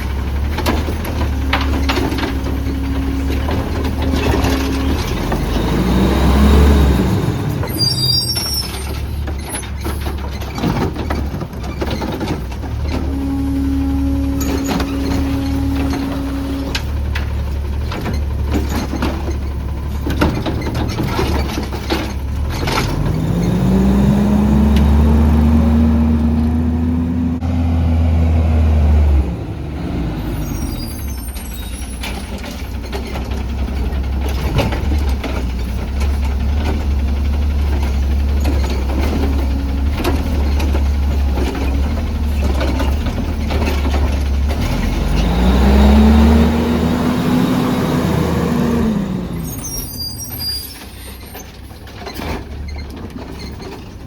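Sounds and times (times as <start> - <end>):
garbage truck engine revving: 0.0 - 53.8.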